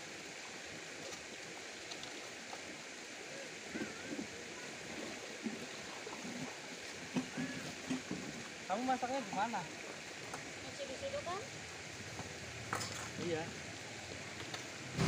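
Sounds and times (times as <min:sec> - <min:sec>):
river water over rocks: 0:00.0 - 0:15.0.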